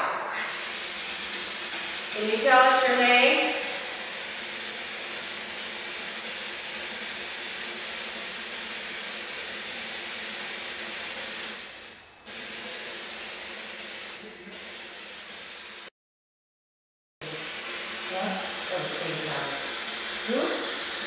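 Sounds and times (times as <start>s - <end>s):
static hiss: 0.3s - 15.9s, 17.2s - 21.0s.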